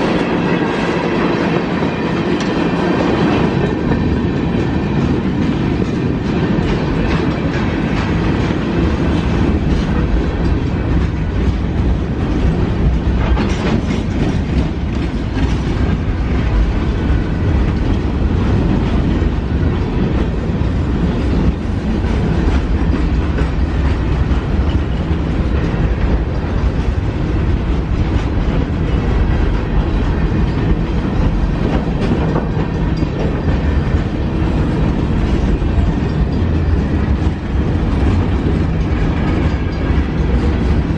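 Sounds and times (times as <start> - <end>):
train rumbling past: 0.0 - 40.9
wheels clattering over rail joints: 0.0 - 40.9.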